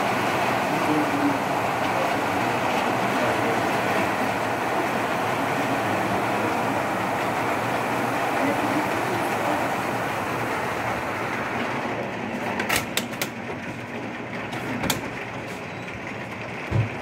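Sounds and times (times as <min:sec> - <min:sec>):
heavy rain through window: 0:00.0 - 0:17.0.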